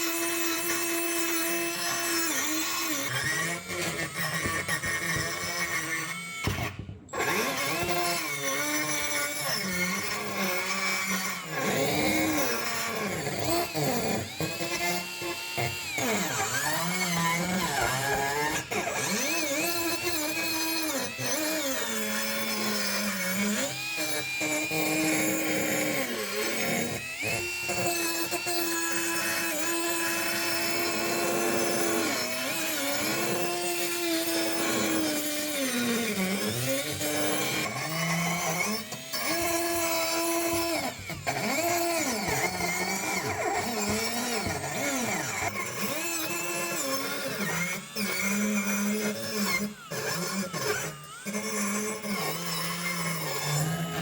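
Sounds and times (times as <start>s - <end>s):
electric power tool running: 0.0s - 54.0s.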